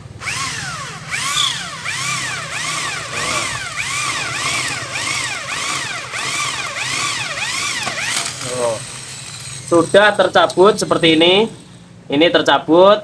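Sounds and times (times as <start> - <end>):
electric drill whining into metal: 0.2 - 11.9.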